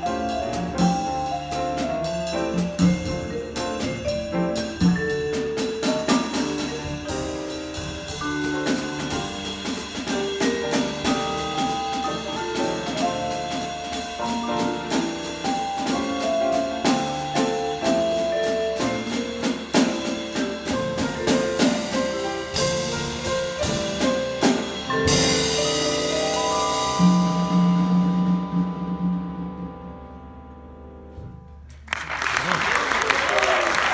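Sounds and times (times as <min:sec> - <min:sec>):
jazz trio playing: 0:00.0 - 0:32.0.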